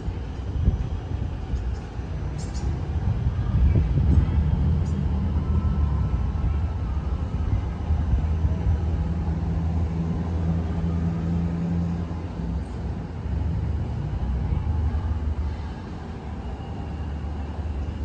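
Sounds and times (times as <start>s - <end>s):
deep engine drone: 0.0s - 18.0s
diesel train engine rumble: 0.0s - 18.0s.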